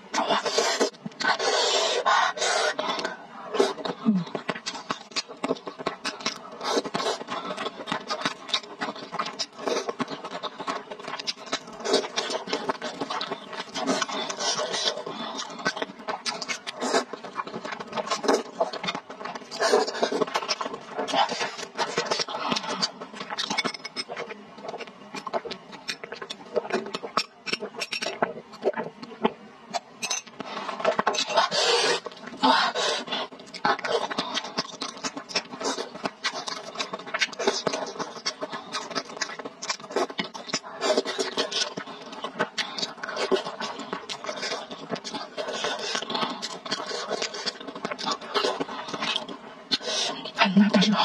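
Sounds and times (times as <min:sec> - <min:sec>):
chewing and slurping noodles: 0:00.1 - 0:50.9.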